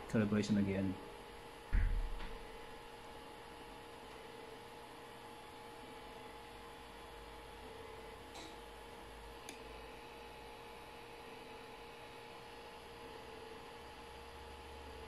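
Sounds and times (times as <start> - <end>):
faint machine hum: 0.0 - 15.0.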